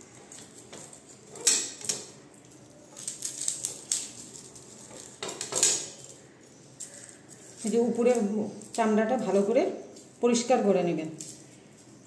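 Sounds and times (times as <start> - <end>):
knife scraping garlic skin: 0.2 - 10.2.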